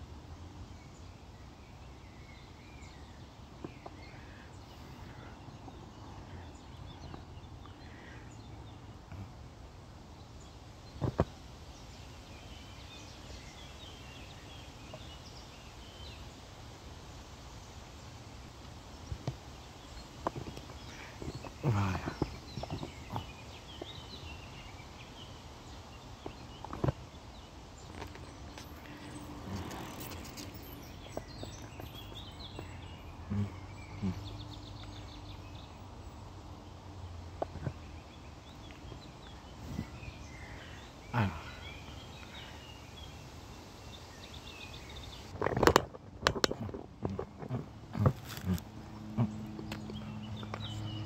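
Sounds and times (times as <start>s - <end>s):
songbirds chirping: 0.0s - 51.0s
steady background noise: 0.0s - 51.0s.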